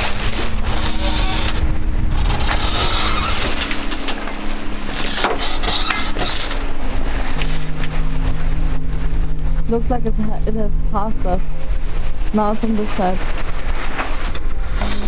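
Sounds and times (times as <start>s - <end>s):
rushing sea: 0.0s - 15.0s
wind buffeting microphone: 0.0s - 15.0s.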